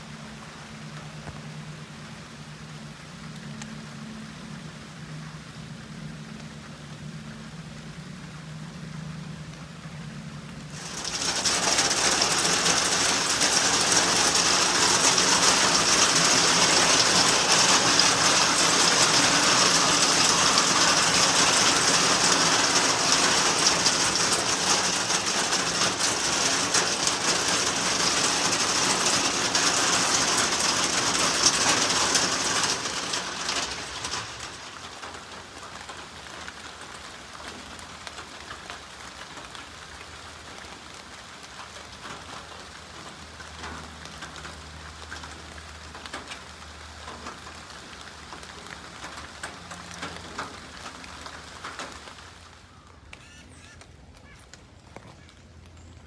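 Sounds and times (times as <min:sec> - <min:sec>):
rain pattering on a wooden roof: 0:00.0 - 0:56.0.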